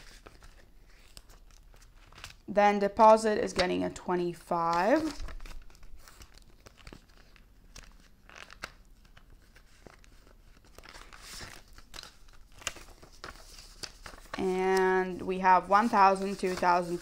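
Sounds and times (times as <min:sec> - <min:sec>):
paper banknotes rustling: 0:00.0 - 0:03.8, 0:04.5 - 0:17.0.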